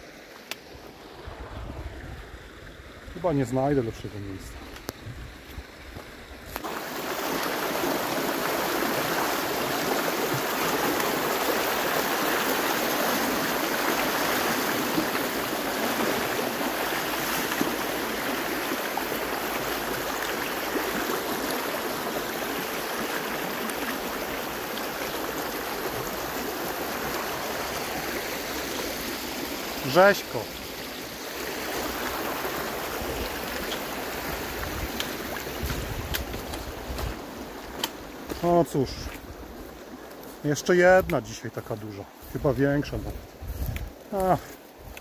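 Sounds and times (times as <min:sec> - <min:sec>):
mountain river rushing: 0:00.0 - 0:04.5, 0:06.5 - 0:44.9.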